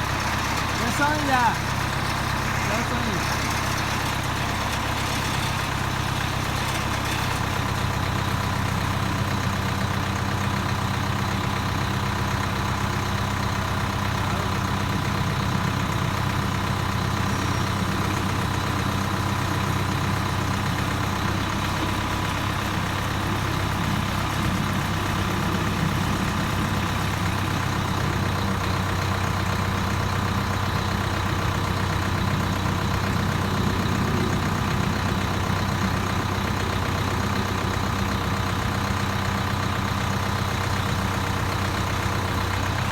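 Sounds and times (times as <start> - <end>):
harvester machinery noise: 0.0 - 42.9
tractor engine droning: 0.0 - 42.9.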